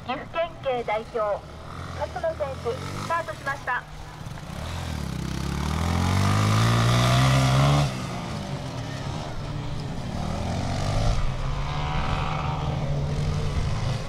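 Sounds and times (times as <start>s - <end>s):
off-road motorcycle engine accelerating: 0.0s - 14.0s.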